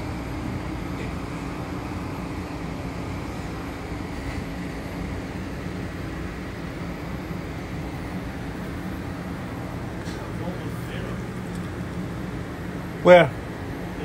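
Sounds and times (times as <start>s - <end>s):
aquarium pumps humming: 0.0s - 14.0s.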